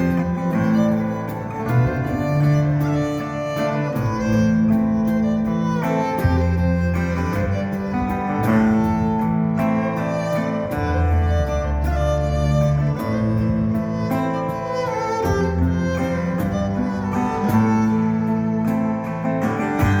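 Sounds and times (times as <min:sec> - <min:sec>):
band playing instrumental music: 0:00.0 - 0:20.0.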